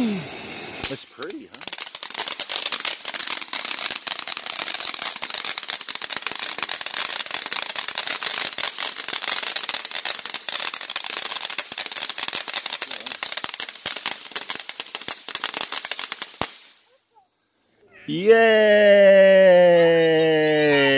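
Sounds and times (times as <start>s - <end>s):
fireworks hiss: 0.0s - 16.8s
fireworks crackling: 0.0s - 17.0s.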